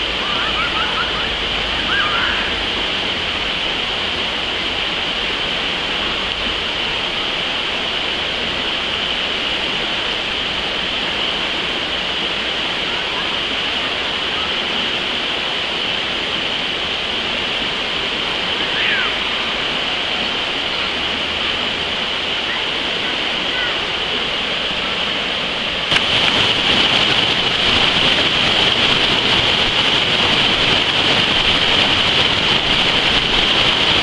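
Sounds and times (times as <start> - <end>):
water rushing over rocks: 0.0 - 34.0.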